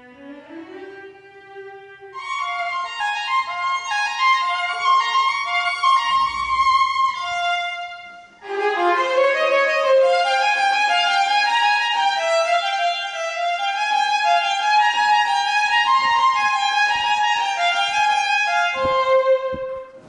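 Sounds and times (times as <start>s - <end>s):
solo violin: 0.0s - 20.0s.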